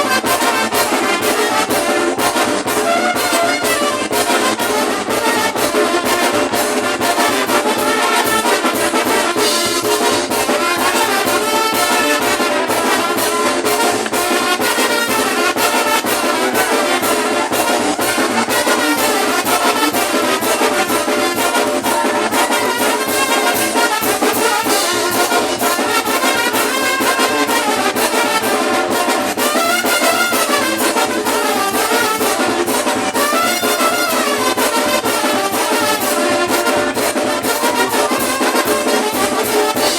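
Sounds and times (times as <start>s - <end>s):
steady drum beat: 0.0s - 39.9s
trumpets and trombones: 0.0s - 39.9s.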